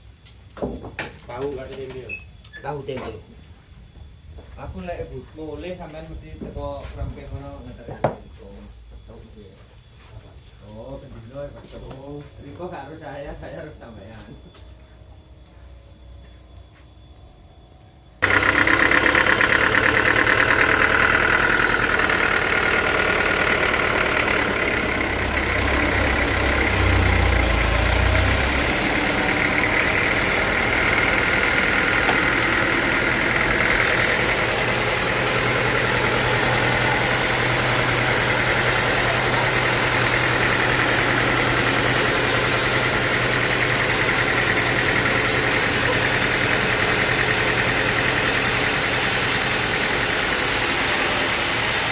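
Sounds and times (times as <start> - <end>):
sawmill machinery with high whine: 10.0 - 51.9.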